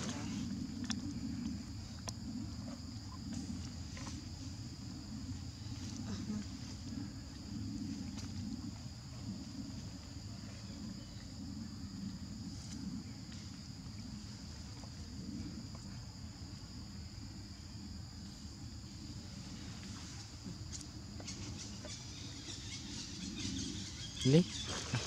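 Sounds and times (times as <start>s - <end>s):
low rumble: 0.0s - 24.2s
insect chorus buzzing: 0.0s - 25.0s.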